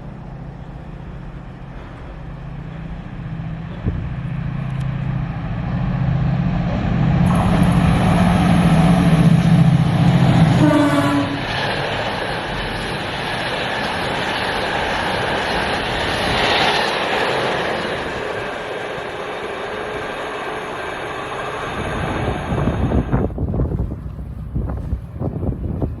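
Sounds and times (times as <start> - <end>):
diesel locomotive engine: 0.0 - 26.0
train wheel and rail noise: 0.0 - 26.0.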